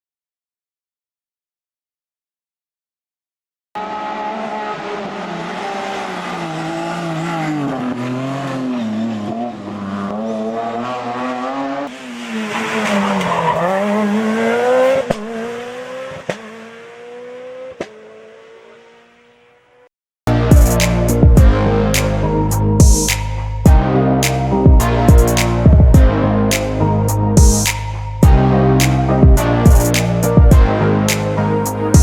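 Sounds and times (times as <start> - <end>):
car engine revving: 3.8 - 32.0.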